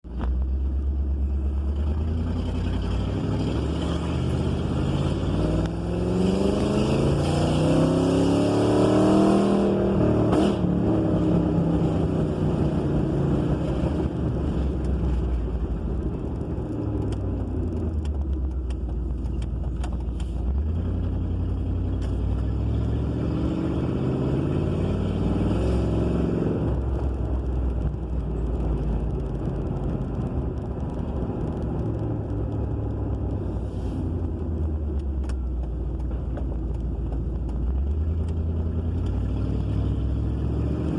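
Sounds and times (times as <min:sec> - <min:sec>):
car engine revving: 0:00.1 - 0:40.9.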